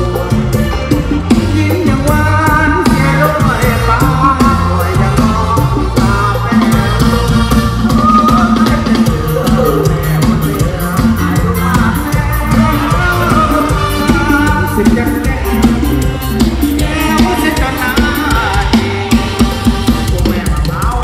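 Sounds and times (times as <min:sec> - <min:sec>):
live band music: 0:00.0 - 0:21.0
person singing: 0:00.0 - 0:21.0.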